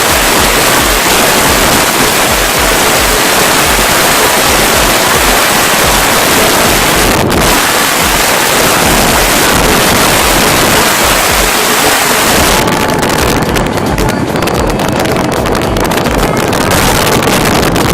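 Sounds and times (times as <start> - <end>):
wind noise on microphone: 0.0 - 17.9.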